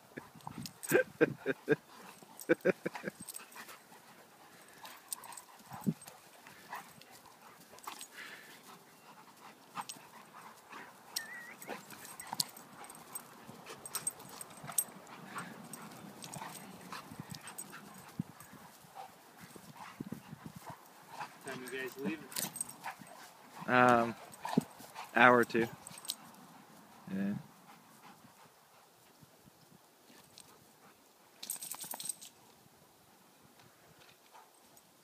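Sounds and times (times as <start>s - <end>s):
faint dog sounds: 0.0s - 29.0s
dogs scuffling on grass: 0.1s - 35.0s.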